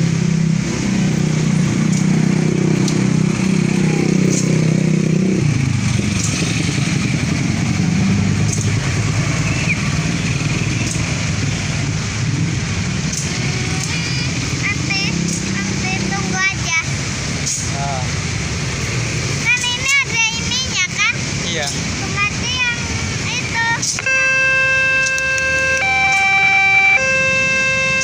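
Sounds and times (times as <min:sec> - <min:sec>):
motorcycle engines running: 0:00.0 - 0:28.0
rough engine sound: 0:00.0 - 0:28.0.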